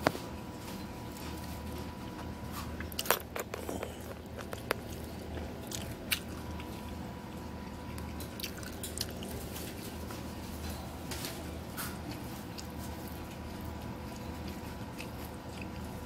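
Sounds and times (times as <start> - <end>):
steady low hum: 0.0 - 16.0
chewing clicks and smacks: 1.2 - 11.2, 11.8 - 16.0.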